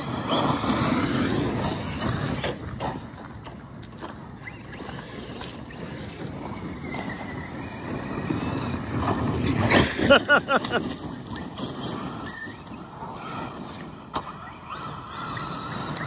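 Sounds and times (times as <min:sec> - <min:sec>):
electric rc truck running: 0:00.0 - 0:16.0
tires crunching on gravel: 0:00.0 - 0:16.0.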